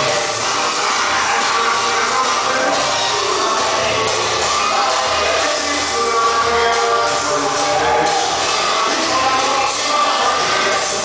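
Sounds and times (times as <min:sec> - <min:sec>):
music with vocals over loudspeaker: 0:00.0 - 0:11.0.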